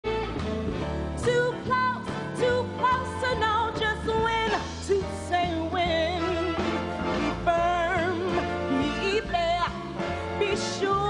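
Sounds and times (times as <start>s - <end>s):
live band playing: 0.0s - 11.0s.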